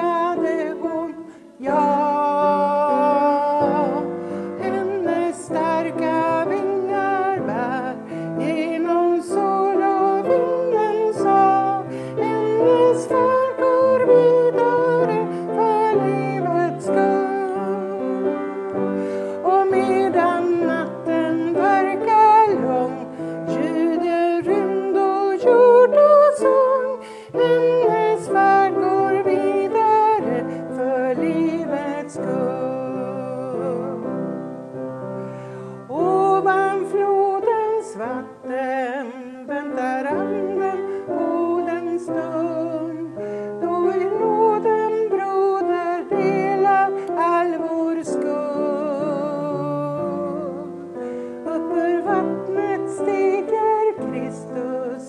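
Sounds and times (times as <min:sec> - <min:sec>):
woman singing with vibrato: 0:00.0 - 0:34.8, 0:35.6 - 0:55.0
piano: 0:00.0 - 0:55.0.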